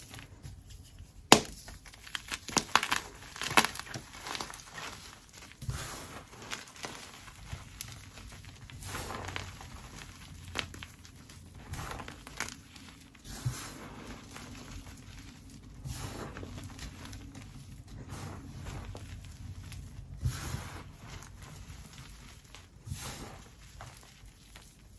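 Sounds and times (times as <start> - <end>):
powder crunching and crackling: 0.0 - 24.9.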